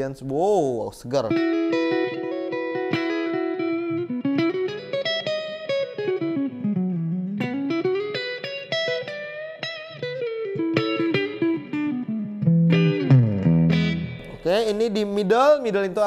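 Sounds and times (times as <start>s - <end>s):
clean electric guitar melodic run: 1.3s - 14.4s.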